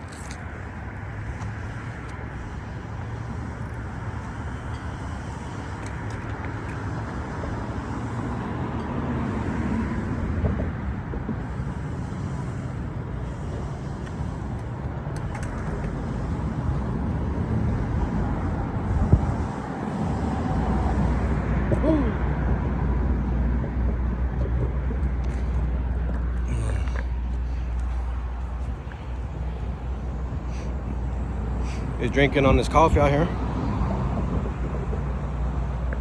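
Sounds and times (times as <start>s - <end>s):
low outdoor rumbling: 0.0s - 36.0s.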